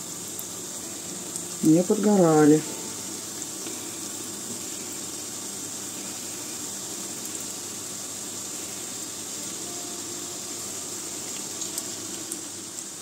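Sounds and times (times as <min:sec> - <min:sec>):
doughnuts sizzling in hot oil: 0:00.0 - 0:13.0.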